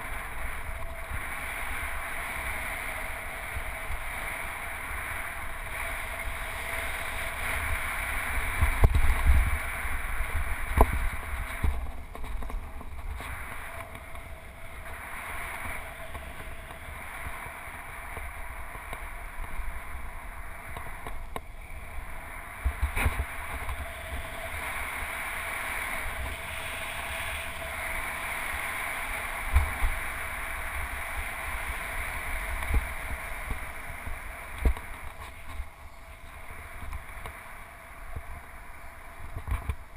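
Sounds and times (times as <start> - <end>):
bicycle tyres on pavement: 0.0 - 39.9
wind rush: 0.0 - 39.9.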